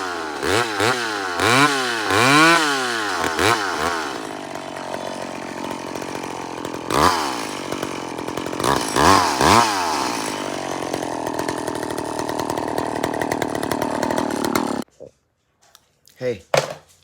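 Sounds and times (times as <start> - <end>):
chainsaw engine revving: 0.0 - 14.8.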